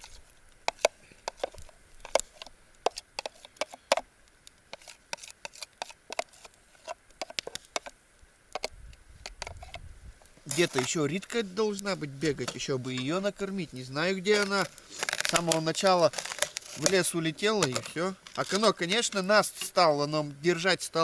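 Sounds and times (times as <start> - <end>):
campfire crackling and popping: 0.0 - 20.4.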